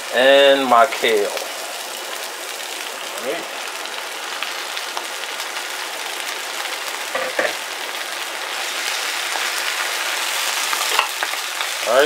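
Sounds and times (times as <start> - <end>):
greens sizzling in hot oil: 0.0 - 12.0.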